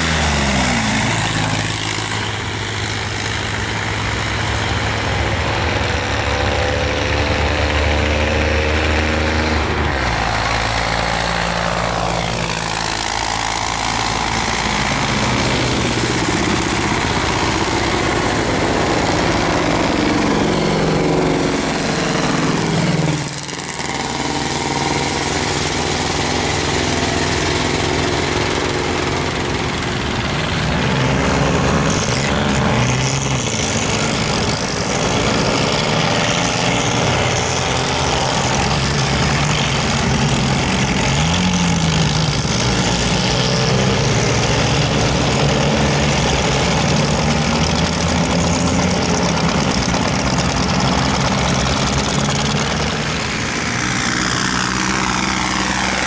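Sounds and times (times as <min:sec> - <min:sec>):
tractor diesel engines: 0:00.0 - 0:56.0.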